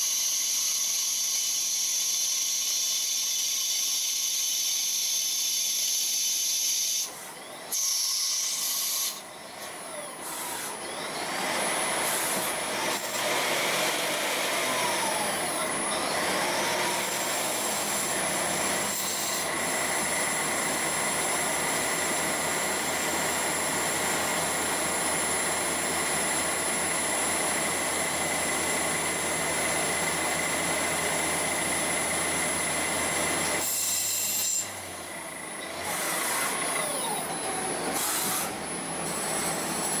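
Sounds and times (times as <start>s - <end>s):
lathe machining noise: 0.0s - 40.0s.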